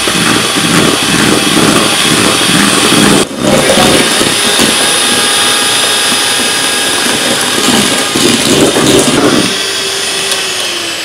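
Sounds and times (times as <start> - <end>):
electric hand mixer whirring: 0.0 - 11.0.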